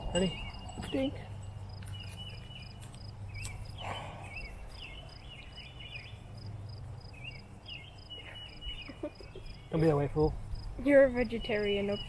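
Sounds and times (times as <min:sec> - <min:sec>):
insect chirping: 0:00.0 - 0:12.0
low wind hum: 0:00.0 - 0:12.0
small birds chirping: 0:00.0 - 0:12.0.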